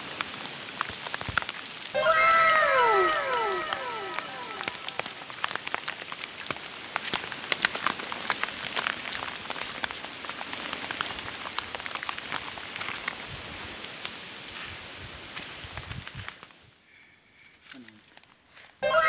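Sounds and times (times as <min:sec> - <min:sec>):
twigs and leaves crackling underfoot: 0:03.0 - 0:18.8.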